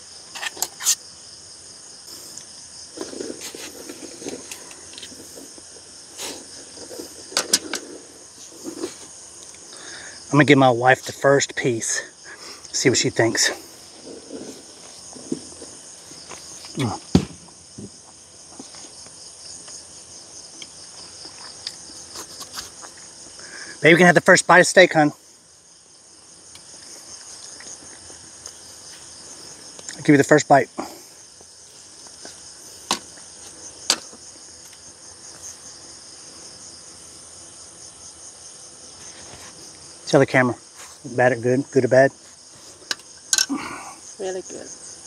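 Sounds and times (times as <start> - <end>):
night insects chirring: 0.0 - 45.0.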